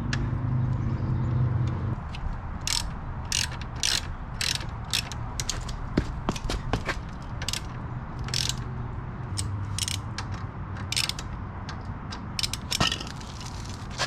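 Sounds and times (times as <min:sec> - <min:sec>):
ratchet wrench clicking: 0:02.0 - 0:14.0.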